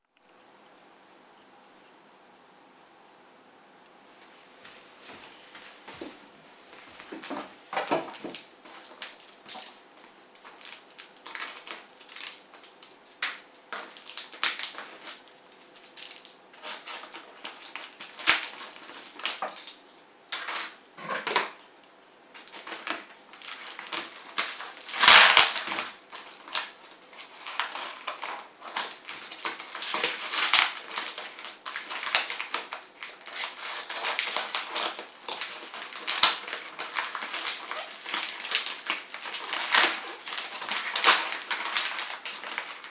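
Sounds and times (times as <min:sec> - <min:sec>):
packaging crinkling and crackling: 0:06.7 - 0:20.8, 0:21.5 - 0:42.9.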